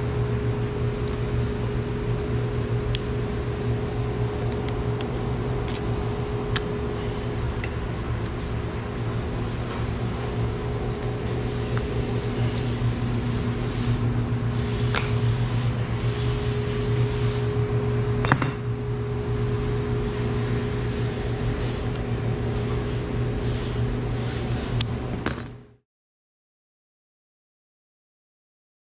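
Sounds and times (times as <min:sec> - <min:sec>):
machinery electric hum: 0:00.0 - 0:25.8.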